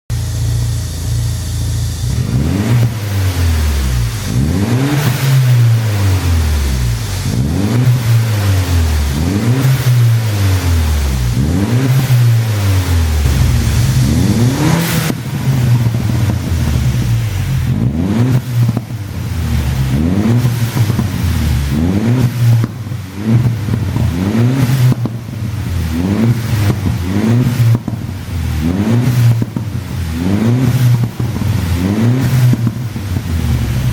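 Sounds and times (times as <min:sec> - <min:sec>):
car engine revving: 0:00.1 - 0:33.9
exhaust pops and crackles: 0:00.1 - 0:33.9.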